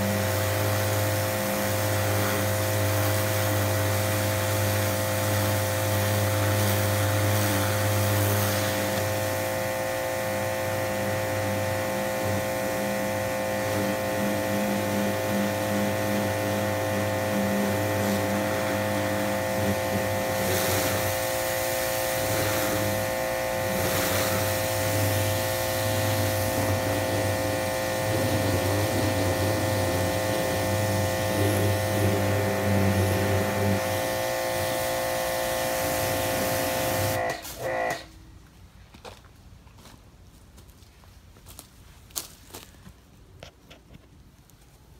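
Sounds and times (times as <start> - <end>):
water spray hissing on wood: 0.0 - 38.0
pressure washer motor hum: 0.0 - 38.1.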